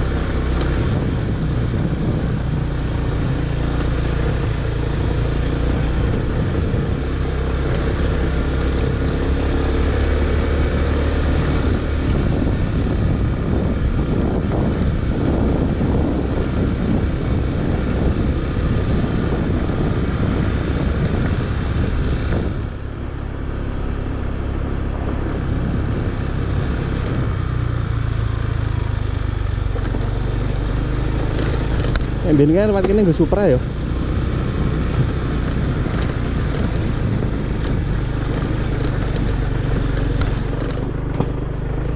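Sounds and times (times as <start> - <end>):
scooter engine running: 0.0 - 41.9.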